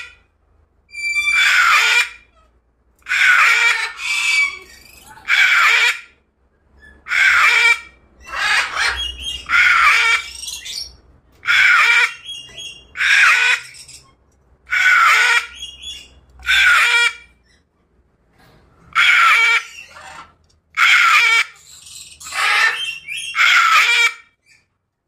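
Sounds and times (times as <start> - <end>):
cockatoo screeching: 0.9 - 2.4, 3.0 - 6.1, 6.8 - 17.6, 18.9 - 24.6.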